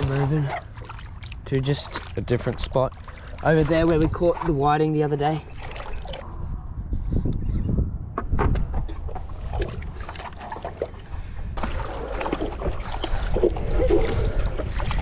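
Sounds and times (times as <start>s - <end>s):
water splashing and sloshing: 0.0s - 6.6s, 8.4s - 15.0s
wind rumbling on microphone: 2.1s - 15.0s.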